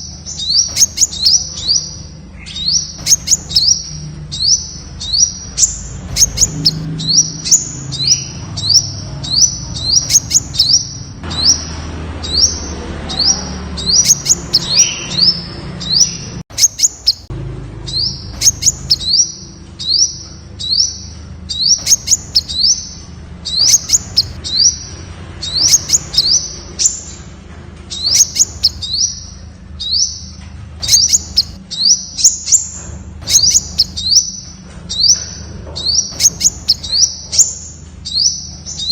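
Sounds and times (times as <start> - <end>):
bird high chip notes: 0.0 - 27.2, 27.9 - 38.9.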